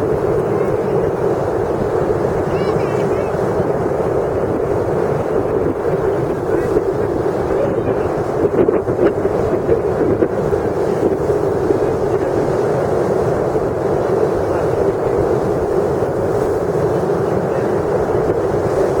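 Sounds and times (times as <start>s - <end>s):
sea surf: 0.0s - 19.0s
wind noise on microphone: 0.0s - 19.0s.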